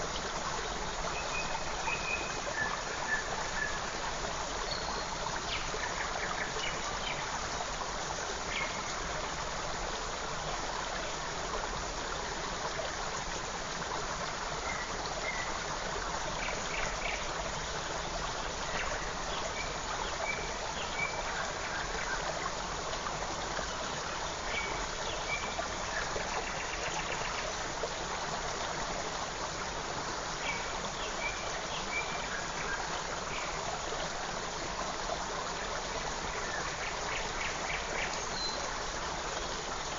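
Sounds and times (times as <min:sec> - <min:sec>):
creek flowing and trickling: 0:00.0 - 0:39.9.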